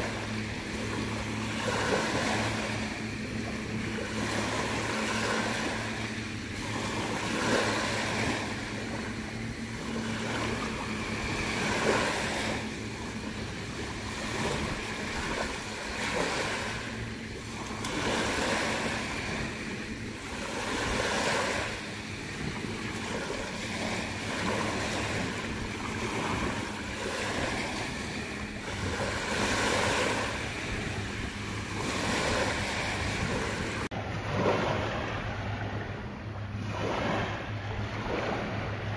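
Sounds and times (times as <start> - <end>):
waves washing onto shore: 0.0 - 38.9.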